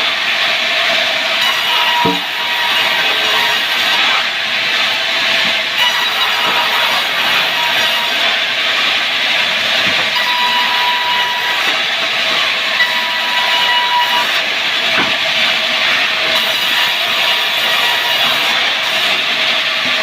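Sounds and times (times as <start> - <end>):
wood saw cutting timber: 0.0 - 20.0.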